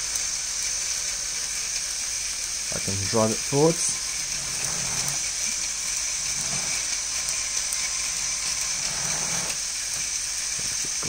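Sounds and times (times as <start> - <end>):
whirring of plastic gears: 0.0 - 11.0.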